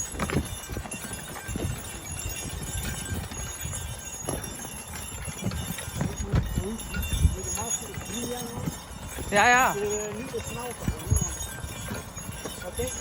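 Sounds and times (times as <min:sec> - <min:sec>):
horse hoofbeats on soil: 0:00.0 - 0:13.0.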